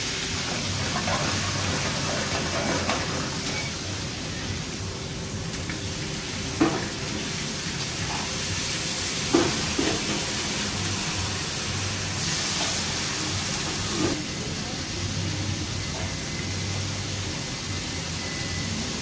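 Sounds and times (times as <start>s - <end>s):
food sizzling in pans: 0.0s - 19.0s.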